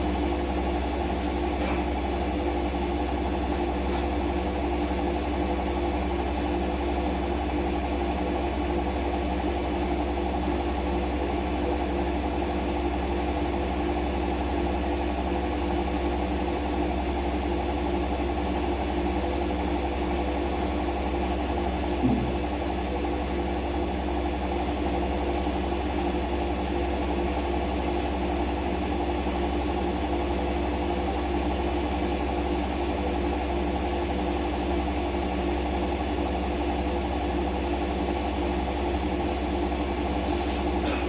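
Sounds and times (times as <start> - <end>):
washing machine spinning: 0.0 - 41.0.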